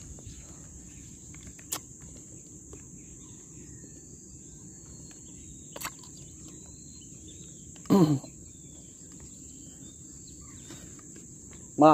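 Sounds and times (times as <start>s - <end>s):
insects droning: 0.0s - 11.9s.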